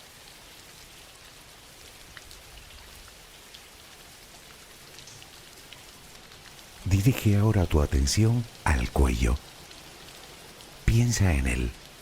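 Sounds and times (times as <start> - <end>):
soft rain hiss: 0.0 - 12.0.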